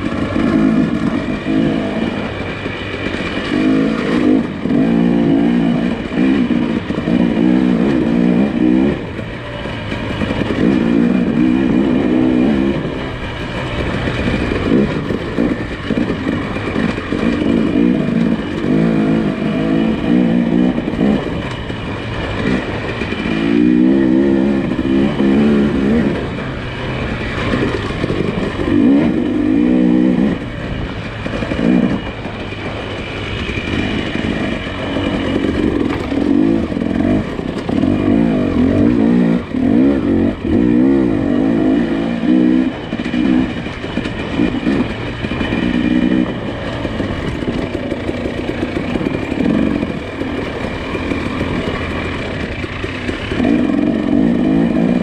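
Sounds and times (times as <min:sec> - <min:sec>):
engine revving off-road: 0:00.0 - 0:55.0.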